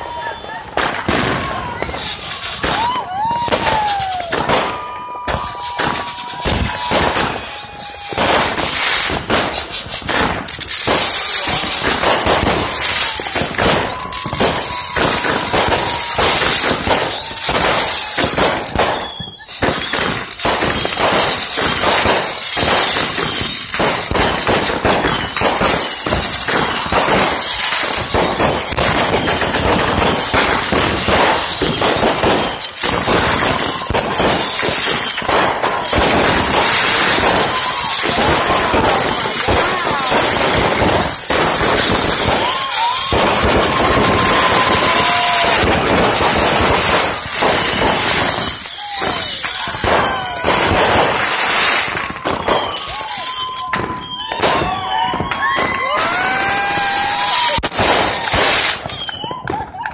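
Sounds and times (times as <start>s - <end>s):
fireworks crackling and popping: 0.0s - 59.9s
whistling fireworks: 0.0s - 59.9s.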